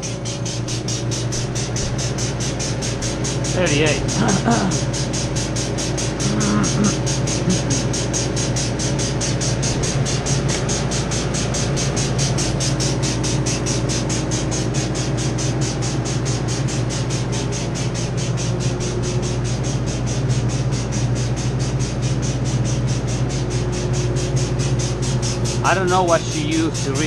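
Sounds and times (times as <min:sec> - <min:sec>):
rapid even ticking: 0:00.0 - 0:27.0
refrigeration machinery hum: 0:00.0 - 0:27.0.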